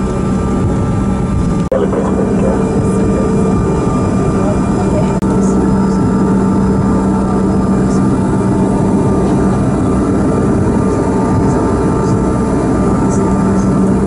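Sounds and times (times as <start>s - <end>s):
airliner engine drone in cabin: 0.0s - 14.0s.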